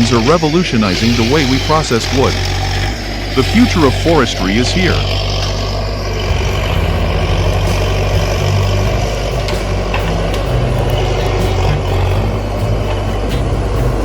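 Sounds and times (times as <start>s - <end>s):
diesel machinery rumbling: 0.0s - 14.0s.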